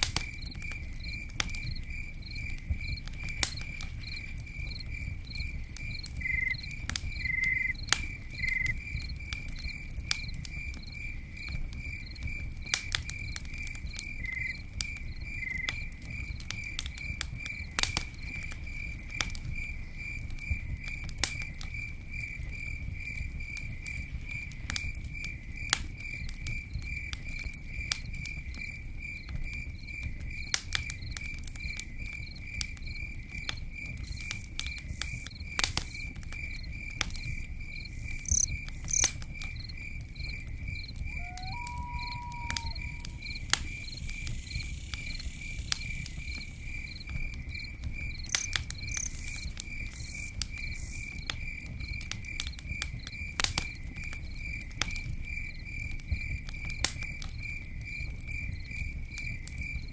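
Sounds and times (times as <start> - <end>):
second cricket chirping: 0.0 - 12.4, 13.2 - 59.9
campfire crackling: 0.0 - 59.9
cricket chirping: 0.0 - 59.9.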